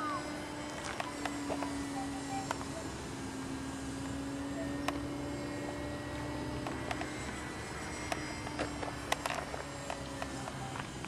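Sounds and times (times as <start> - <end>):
model airplane motor droning: 0.0 - 11.0.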